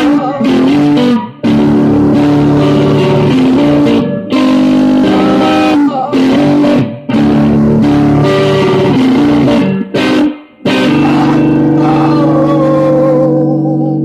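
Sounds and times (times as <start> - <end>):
electric guitar strummed chords: 0.0 - 14.0.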